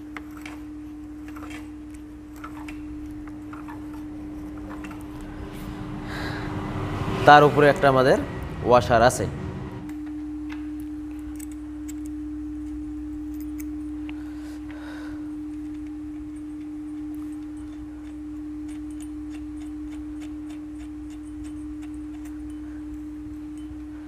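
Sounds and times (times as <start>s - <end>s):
low background hum: 0.0s - 24.0s
steady single-pitched hum: 0.0s - 24.0s.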